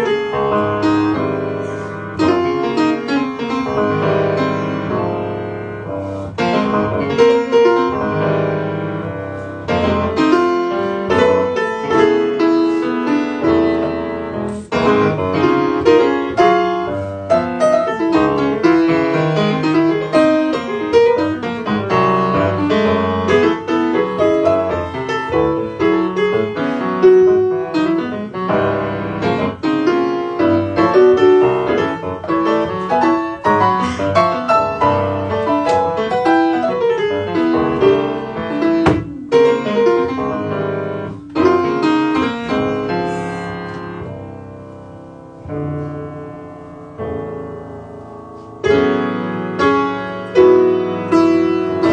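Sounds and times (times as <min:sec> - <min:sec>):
grand piano playing jazz: 0:00.0 - 0:51.9.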